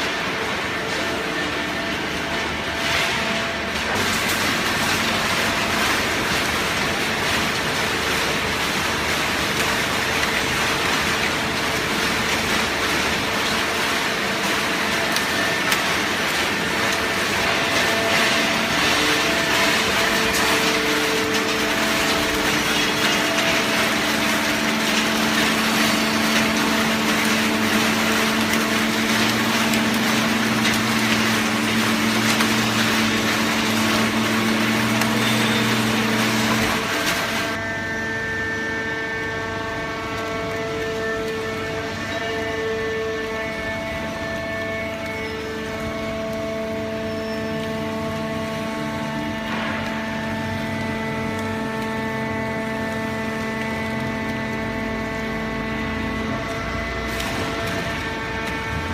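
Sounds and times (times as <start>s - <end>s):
shredder machinery running: 0.0s - 58.9s.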